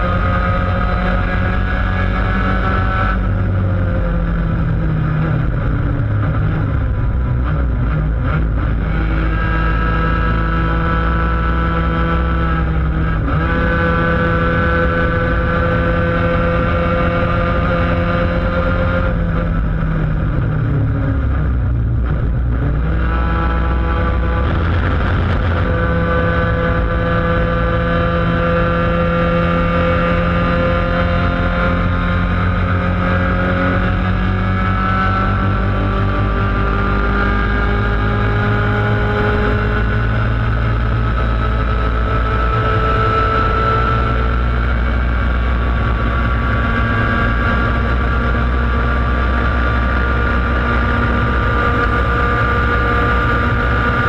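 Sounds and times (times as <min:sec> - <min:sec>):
kart engine at high revs: 0:00.0 - 0:54.0.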